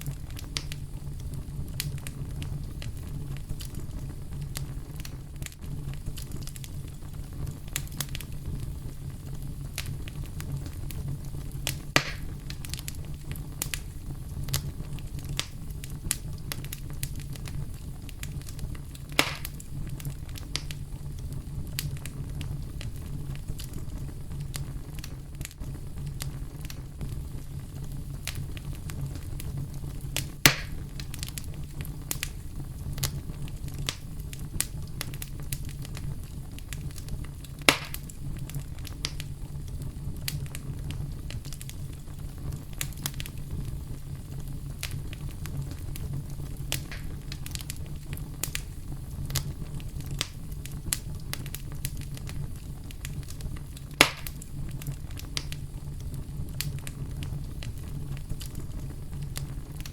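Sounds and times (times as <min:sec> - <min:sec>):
campfire crackling: 0:00.0 - 0:59.9
loud sharp fire pops: 0:00.0 - 0:59.9.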